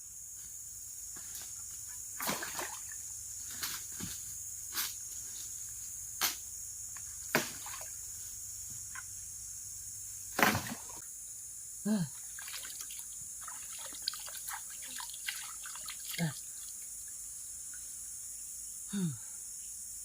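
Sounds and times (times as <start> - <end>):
forest insects chorus: 0.0 - 20.0.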